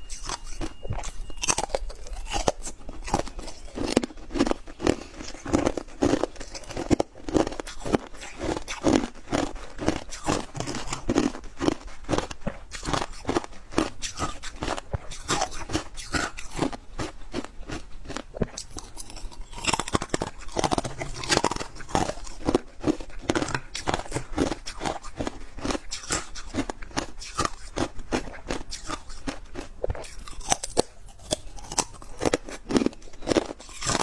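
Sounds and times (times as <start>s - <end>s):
crunching and chewing frost: 0.0s - 34.0s.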